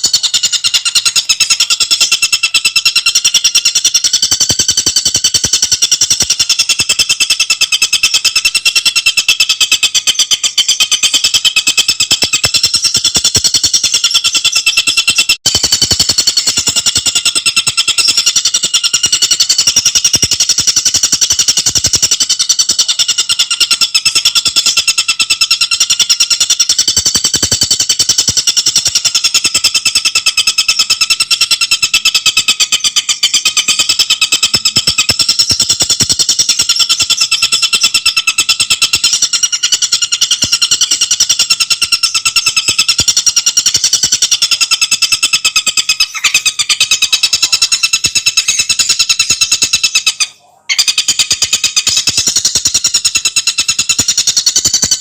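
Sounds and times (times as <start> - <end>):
bird calling in a high trill: 0.0 - 55.0.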